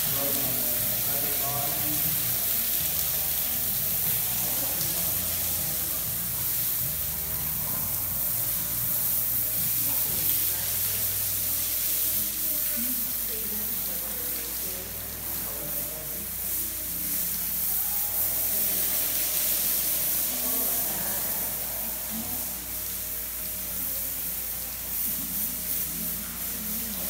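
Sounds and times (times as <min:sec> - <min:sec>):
hose spray nozzle hissing: 0:00.0 - 0:27.0.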